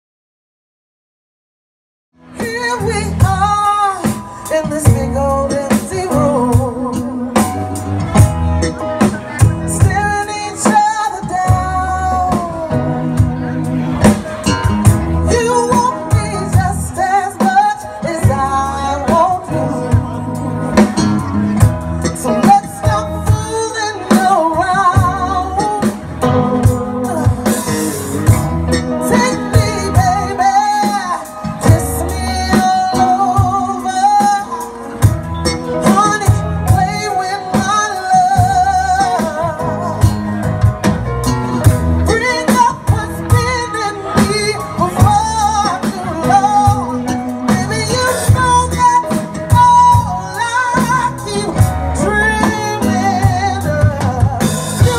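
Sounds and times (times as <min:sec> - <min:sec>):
electric bass: 0:02.2 - 0:54.9
electric guitars: 0:02.2 - 0:54.9
keyboard: 0:02.2 - 0:54.9
woman singing lead: 0:02.2 - 0:54.9
drum kit beat: 0:02.3 - 0:54.9.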